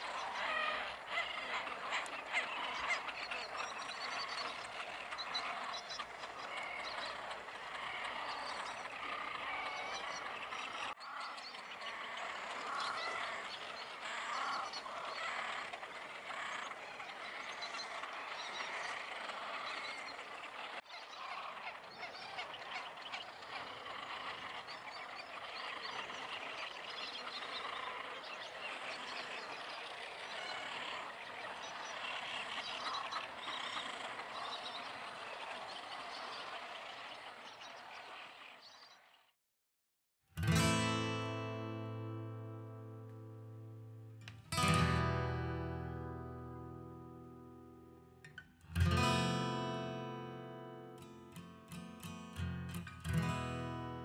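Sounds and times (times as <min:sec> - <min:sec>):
chorus of small animal calls: 0:00.0 - 0:39.2, 0:40.4 - 0:54.0.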